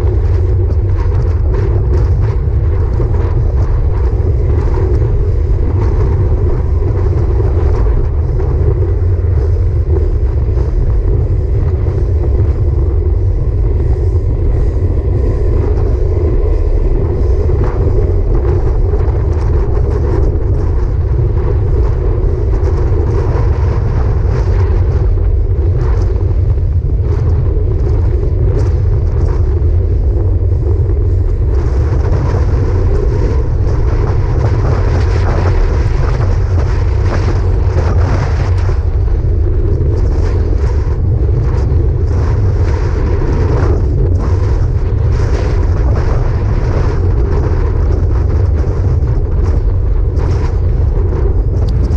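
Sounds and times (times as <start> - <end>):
bike road noise: 0.0 - 51.9
wind buffeting microphone: 0.0 - 51.9.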